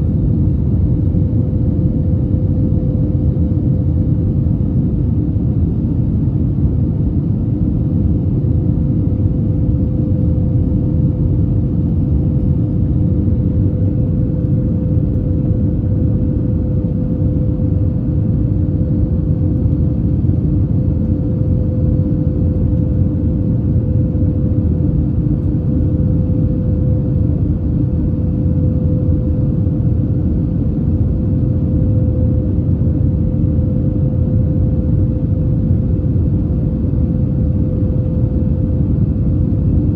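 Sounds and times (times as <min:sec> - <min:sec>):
airplane cabin engine rumble: 0:00.0 - 0:39.9
steady hum tone: 0:00.0 - 0:39.9.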